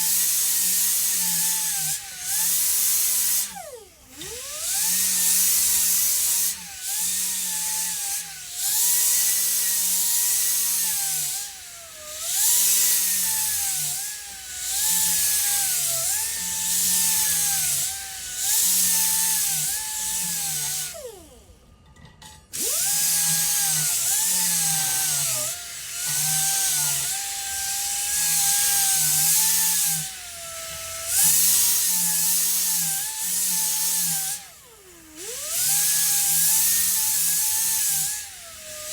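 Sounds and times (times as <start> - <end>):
air sander whining: 0.0 - 21.7, 22.4 - 38.9.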